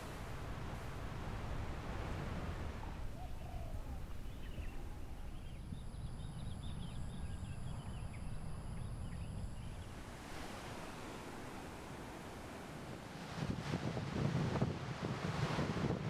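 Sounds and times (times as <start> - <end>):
surf and wind rumble: 0.0 - 16.0.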